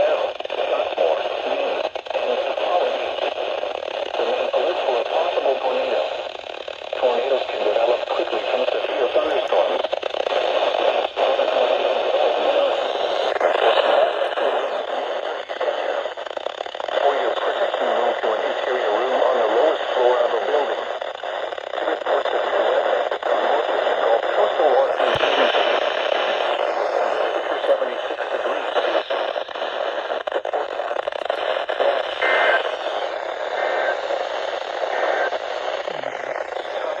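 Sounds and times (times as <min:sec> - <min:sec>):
fast static crackle: 0:00.0 - 0:37.0
radio static hiss: 0:00.0 - 0:37.0.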